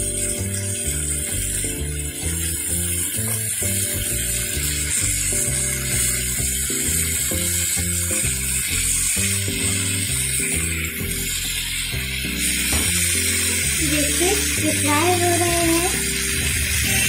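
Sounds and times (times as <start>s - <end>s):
background music: 0.0s - 17.0s
fish sizzling in a pan: 0.0s - 17.0s.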